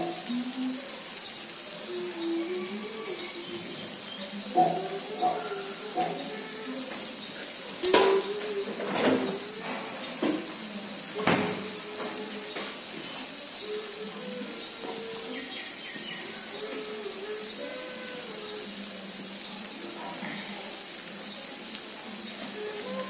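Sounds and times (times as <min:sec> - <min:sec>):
food sizzling in a frying pan: 0:00.0 - 0:23.0.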